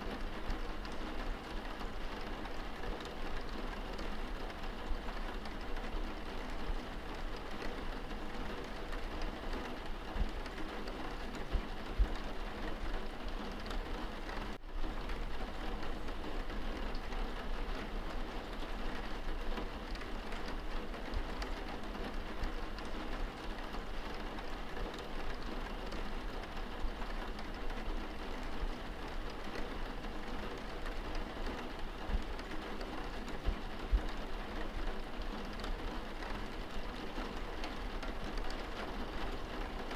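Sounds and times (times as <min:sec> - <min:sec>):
rain on window glass: 0:00.0 - 0:39.9.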